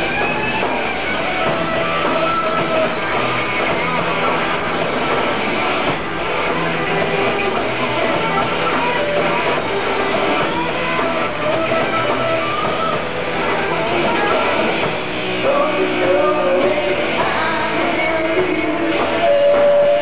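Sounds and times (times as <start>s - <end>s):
drums: 0.0s - 20.0s
electric guitar: 0.0s - 20.0s.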